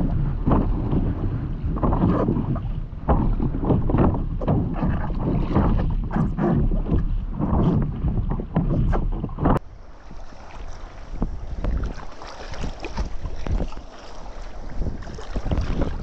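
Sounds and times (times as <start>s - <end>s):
paddle dipping through water: 0.0s - 16.0s
water splashing and sloshing: 0.0s - 16.0s
wind buffeting microphone: 0.0s - 16.0s.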